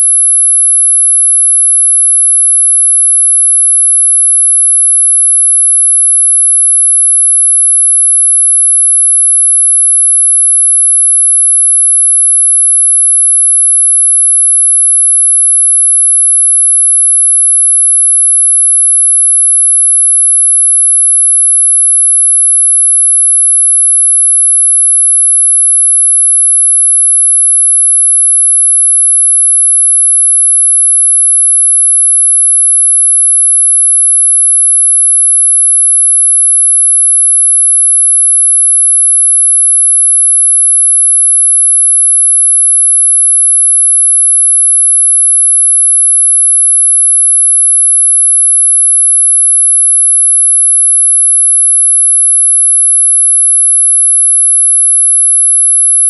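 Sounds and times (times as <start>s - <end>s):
high-pitched sine tone: 0.0s - 56.0s.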